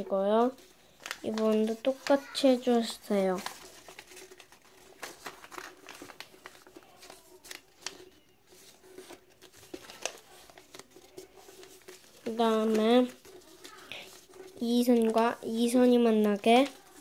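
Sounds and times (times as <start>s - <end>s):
paper rustling and crinkling: 0.0s - 17.0s
paper folds clicking: 0.5s - 17.0s.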